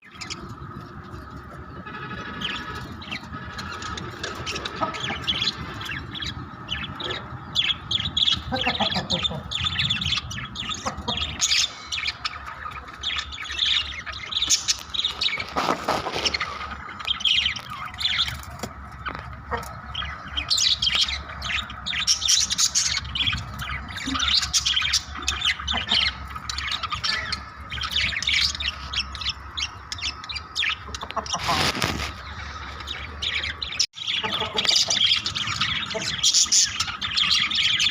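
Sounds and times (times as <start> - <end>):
budgerigars chattering: 0.0 - 37.9.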